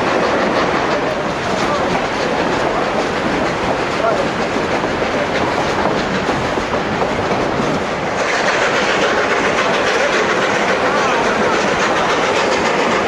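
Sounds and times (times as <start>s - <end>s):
clickety-clack over rail joints: 0.0s - 13.0s
train wheels rumbling on rail: 0.0s - 13.0s.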